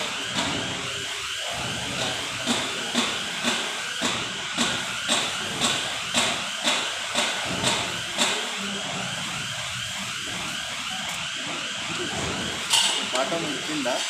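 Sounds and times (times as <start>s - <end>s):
machine whirring: 0.0s - 14.0s.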